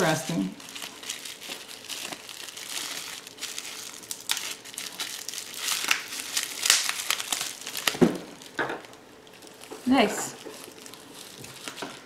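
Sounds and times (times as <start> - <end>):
packaging crinkling and rustling: 0.3 - 12.0.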